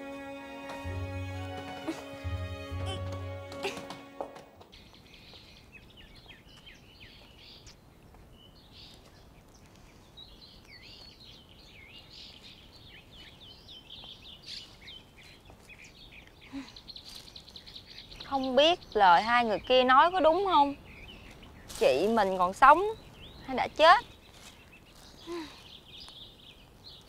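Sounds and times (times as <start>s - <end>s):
small birds chirping: 4.6s - 27.0s.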